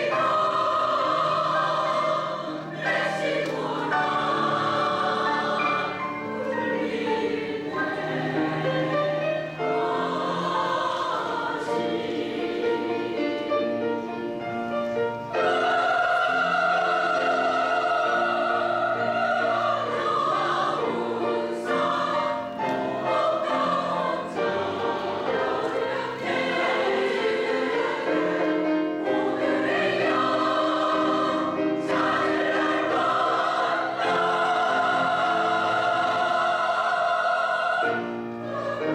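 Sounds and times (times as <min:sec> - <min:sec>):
women's choir singing in harmony: 0:00.0 - 0:38.9.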